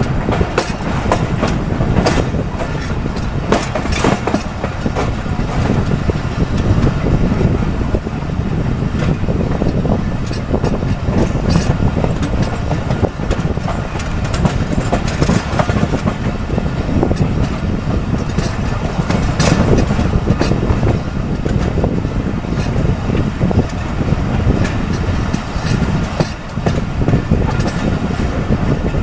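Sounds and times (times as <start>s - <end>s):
rail joints clacking: 0.0s - 29.0s
train wheels rumbling: 0.0s - 29.0s.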